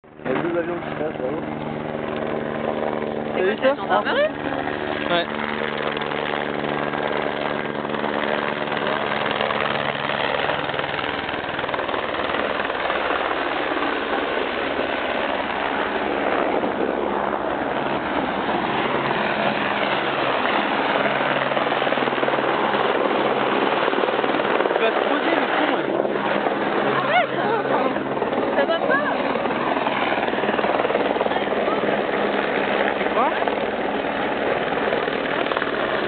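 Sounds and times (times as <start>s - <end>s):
helicopter flying low: 0.0s - 36.0s.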